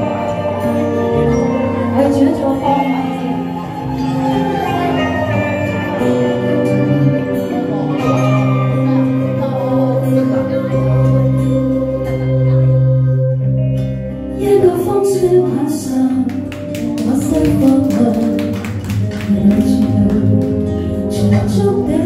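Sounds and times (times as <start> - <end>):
woman singing into microphone: 0.0 - 6.1, 8.0 - 13.2, 14.3 - 22.0
karaoke backing track: 0.0 - 22.0.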